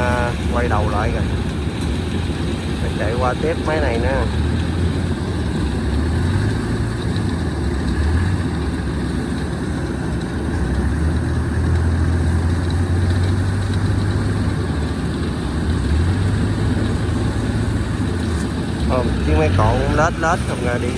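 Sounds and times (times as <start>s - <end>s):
engine low rumble: 0.0s - 20.9s.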